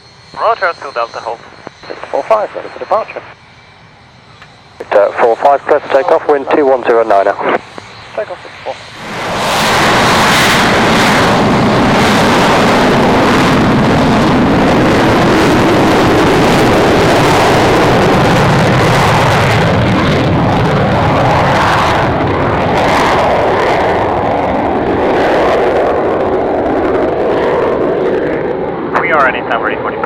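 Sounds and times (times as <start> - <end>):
aircraft engines at takeoff: 0.0 - 30.0.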